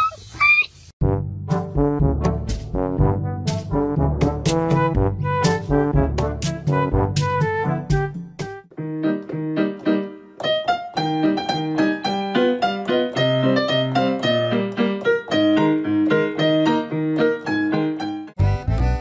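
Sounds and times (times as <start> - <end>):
piano music: 1.0 - 19.0.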